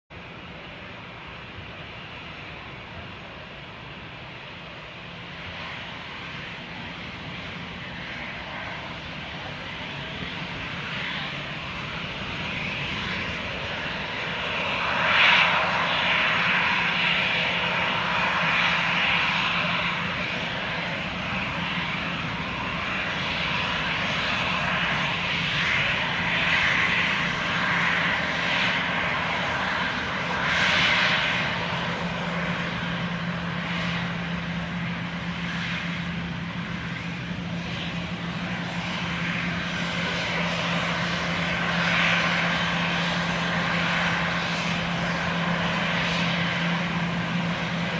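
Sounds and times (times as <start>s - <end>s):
jet engine rush: 0.1s - 47.9s.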